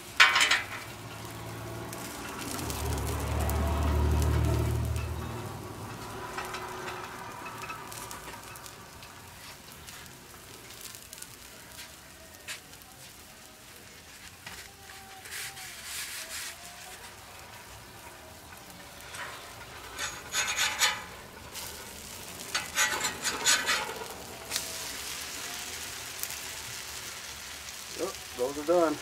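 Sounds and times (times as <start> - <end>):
metal spatula scraping griddle: 0.0 - 11.9, 14.1 - 27.9
frying sizzle: 0.0 - 29.0.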